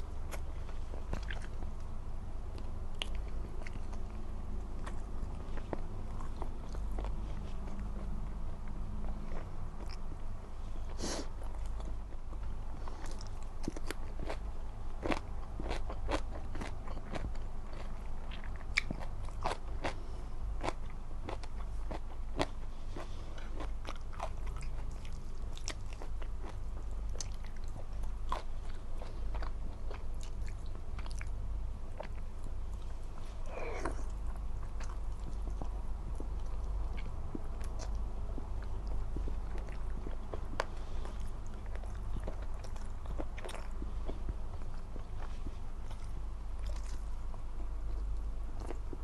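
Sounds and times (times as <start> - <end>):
person chewing crunchy food: 0.1 - 1.9, 2.5 - 10.2, 10.9 - 49.0.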